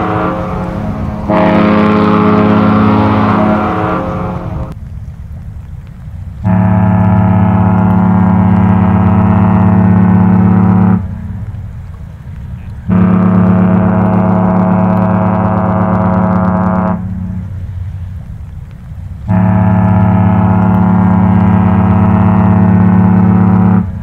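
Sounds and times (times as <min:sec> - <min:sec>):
ship's horn deep blasts: 0:00.0 - 0:04.8, 0:06.4 - 0:11.8, 0:12.5 - 0:18.2, 0:19.2 - 0:24.0.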